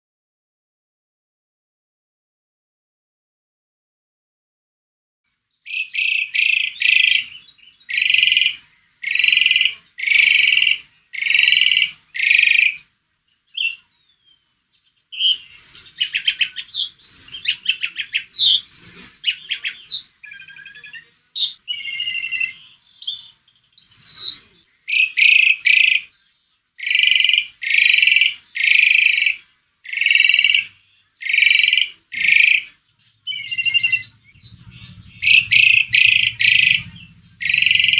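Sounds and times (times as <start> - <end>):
starling singing: 5.7 - 37.9.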